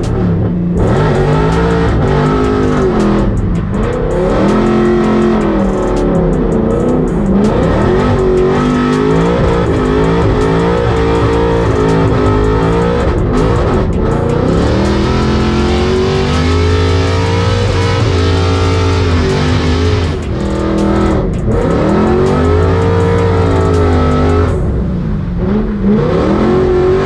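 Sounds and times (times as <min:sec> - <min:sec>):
car engine revving: 0:00.0 - 0:27.0
guitar-driven music: 0:00.0 - 0:27.0.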